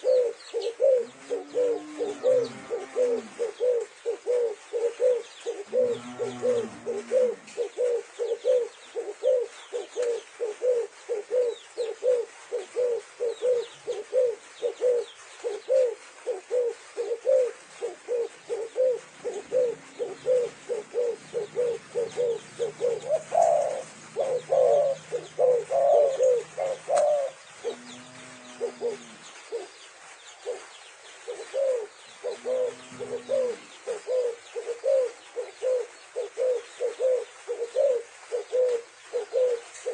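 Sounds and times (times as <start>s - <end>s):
doves cooing: 0.0s - 29.7s, 30.4s - 39.9s
lower longer dove coo: 0.0s - 29.7s, 30.4s - 39.9s.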